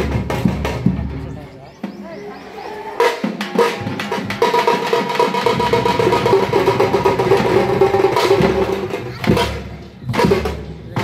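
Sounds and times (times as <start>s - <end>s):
deep low drum beats: 0.0s - 2.3s, 3.0s - 11.0s
drum troupe playing fast rhythm: 0.0s - 11.0s.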